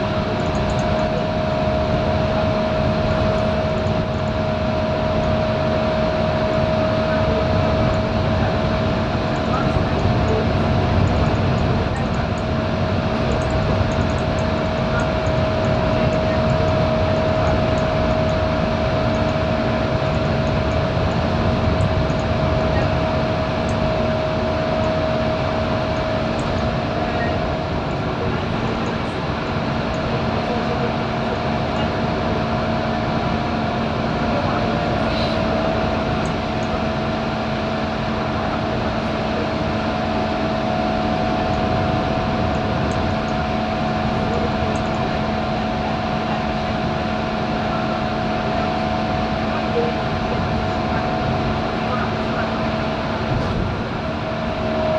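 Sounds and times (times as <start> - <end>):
bus diesel engine drone: 0.0 - 54.9
steady whine: 0.0 - 54.9.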